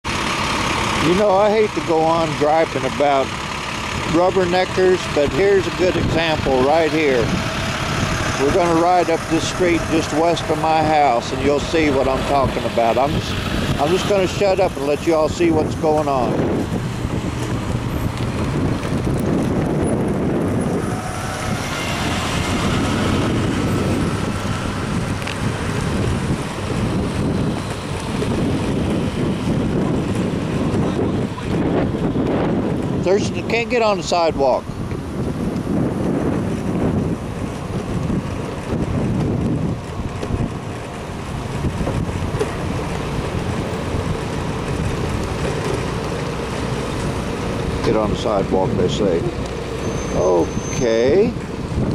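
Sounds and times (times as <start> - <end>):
car engine: 0.0 - 51.9
road rumble: 0.0 - 51.9
wind buffeting microphone: 0.1 - 51.9.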